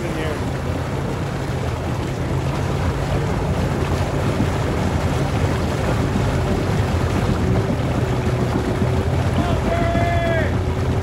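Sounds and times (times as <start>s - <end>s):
water churning and sloshing: 0.0s - 11.0s
wind noise on microphone: 0.0s - 11.0s.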